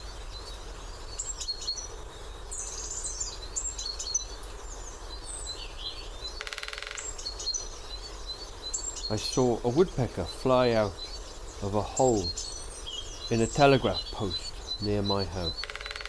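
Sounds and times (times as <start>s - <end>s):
songbirds chirping and whistling: 0.0s - 16.0s.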